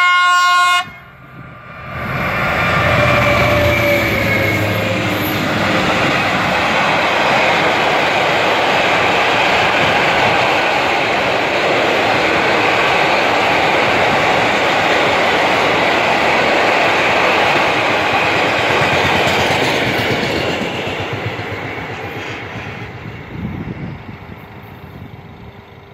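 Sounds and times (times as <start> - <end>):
freight train wheels rumbling: 0.8 - 25.9.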